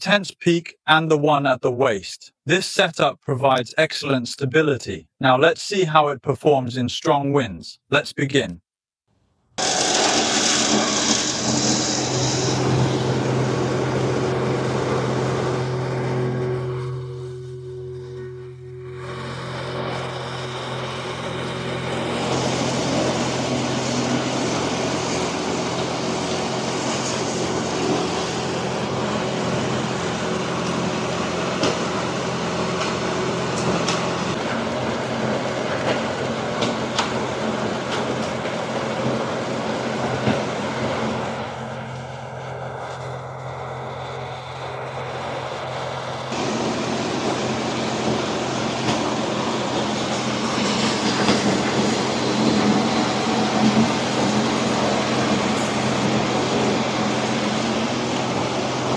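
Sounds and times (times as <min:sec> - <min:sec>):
low motor hum: 0:09.6 - 0:58.9.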